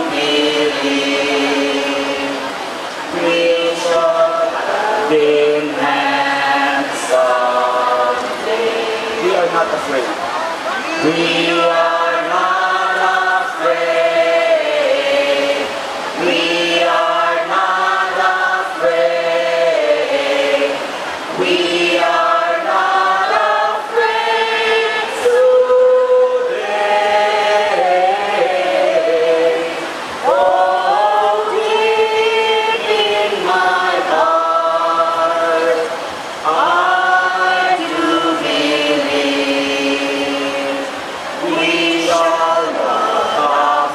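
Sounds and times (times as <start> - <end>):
crowd singing together: 0.0 - 43.9.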